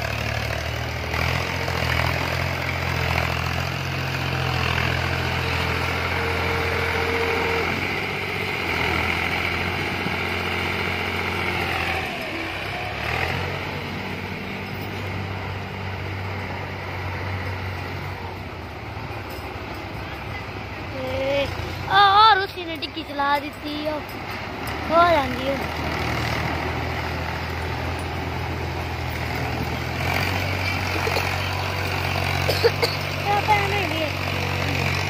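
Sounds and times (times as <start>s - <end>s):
tractor diesel engines under load: 0.0s - 35.0s.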